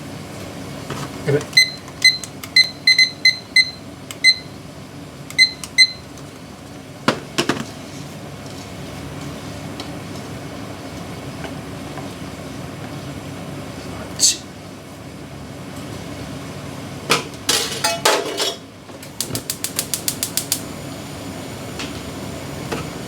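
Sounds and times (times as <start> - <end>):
low appliance hum: 0.0 - 23.0.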